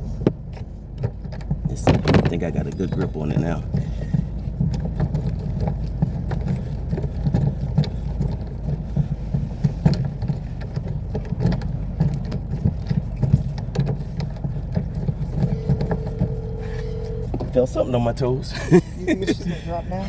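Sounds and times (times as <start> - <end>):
knocks and clicks on car wheel: 0.2 - 17.6.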